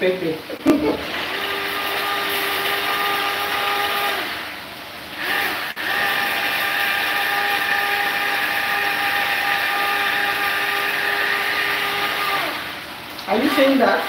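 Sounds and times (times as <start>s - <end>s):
food processor motor whining: 1.0s - 4.5s, 5.2s - 14.0s.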